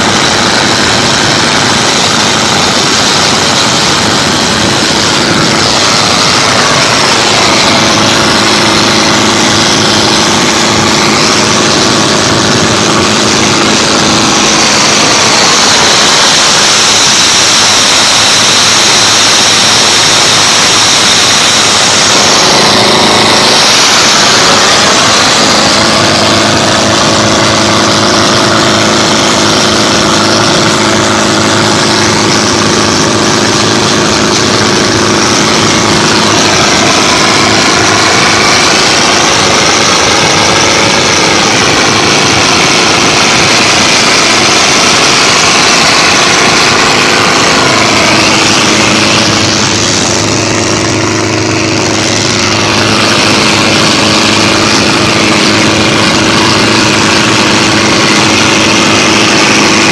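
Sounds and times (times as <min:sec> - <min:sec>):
boat engine running hard: 0:00.0 - 0:59.9
water spray rushing off hull: 0:00.0 - 0:59.9.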